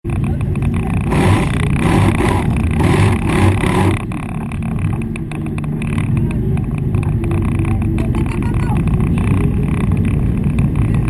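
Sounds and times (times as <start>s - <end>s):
vehicle engine running: 0.0s - 11.0s
loud rattling: 0.1s - 11.0s.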